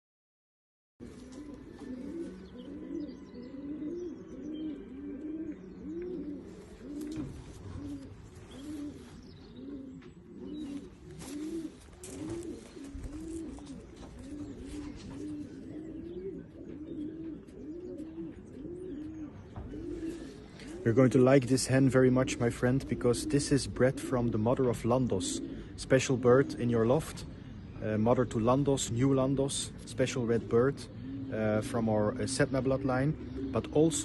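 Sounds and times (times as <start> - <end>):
pigeons cooing: 1.0 - 34.0.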